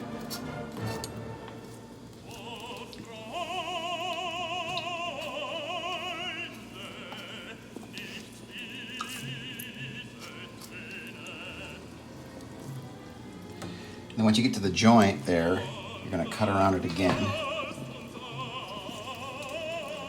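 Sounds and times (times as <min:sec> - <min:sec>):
operatic singing: 0:00.0 - 0:20.0.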